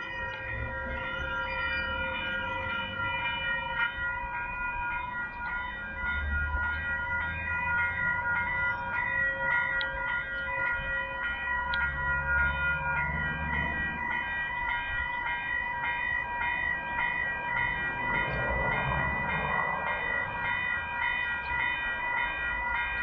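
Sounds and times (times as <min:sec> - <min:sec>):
level crossing bell ringing: 0:00.0 - 0:23.0.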